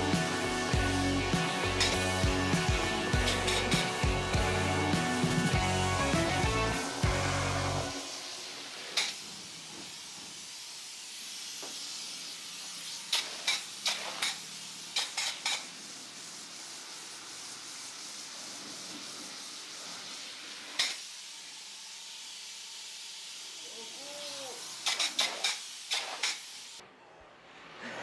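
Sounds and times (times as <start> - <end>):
spray foam gun hissing: 0.0 - 26.8.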